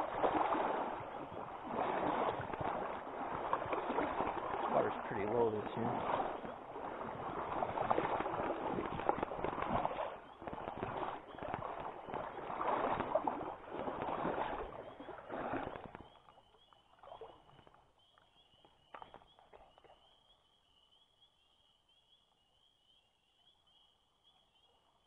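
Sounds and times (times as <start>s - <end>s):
water sloshing and splashing: 0.0s - 20.2s
footsteps wading through stream: 0.0s - 20.4s.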